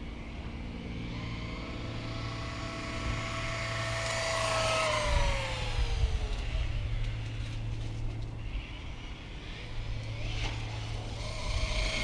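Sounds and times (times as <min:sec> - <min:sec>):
electric motor whining: 0:00.0 - 0:07.8, 0:08.5 - 0:12.0.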